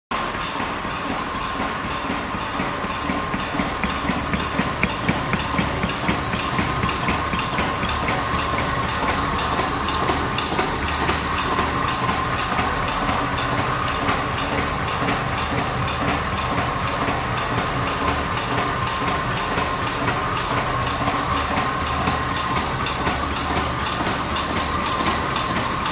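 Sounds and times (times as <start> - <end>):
mechanical hum and whine: 0.1 - 25.9
flatbed press clattering: 0.9 - 25.9.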